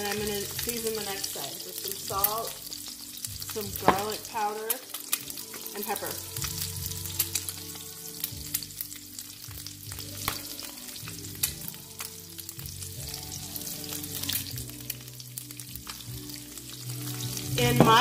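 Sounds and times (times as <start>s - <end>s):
eggs sizzling in oil: 0.0s - 18.0s.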